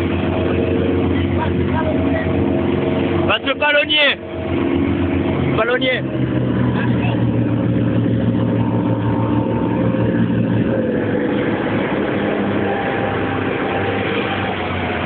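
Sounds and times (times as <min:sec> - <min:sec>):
motorboat engine running: 0:00.0 - 0:15.0
water rushing and churning: 0:00.0 - 0:15.0.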